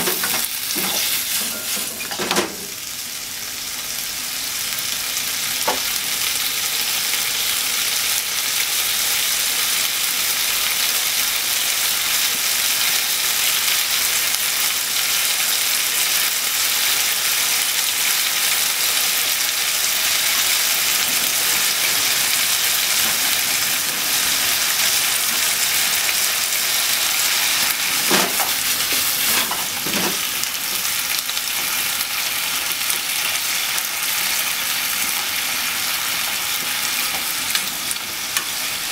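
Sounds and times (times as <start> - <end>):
food sizzling in a frying pan: 0.0 - 38.9.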